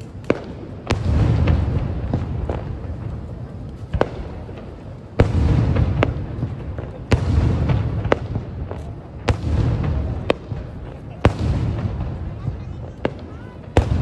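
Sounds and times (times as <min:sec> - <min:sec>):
distant fireworks booms: 0:00.0 - 0:14.0.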